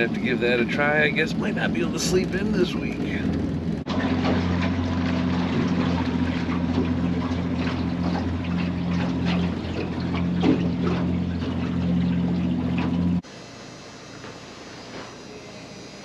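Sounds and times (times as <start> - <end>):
water splashing against hull: 0.0 - 13.2
outboard motor running: 0.0 - 13.3.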